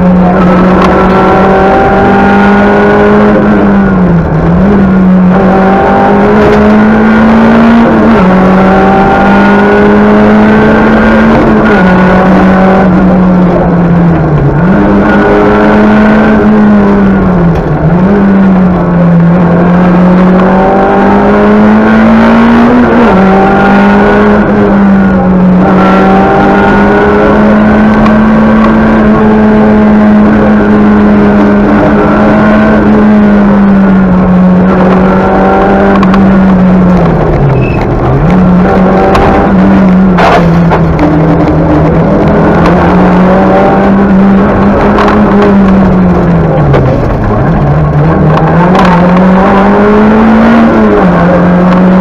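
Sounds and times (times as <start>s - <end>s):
rally car engine at high revs: 0.0s - 52.0s.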